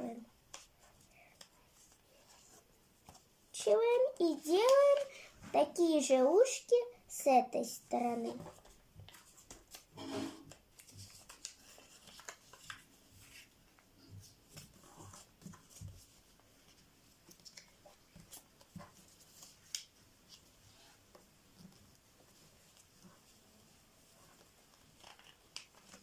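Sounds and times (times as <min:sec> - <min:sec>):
paper folding rustles and taps: 0:00.4 - 0:05.2, 0:08.2 - 0:26.0.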